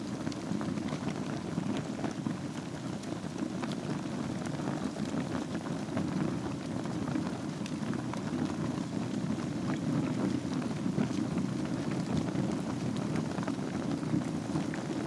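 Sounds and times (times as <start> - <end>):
fire crackling and popping: 0.0 - 15.0
fire flames rushing: 0.0 - 15.0.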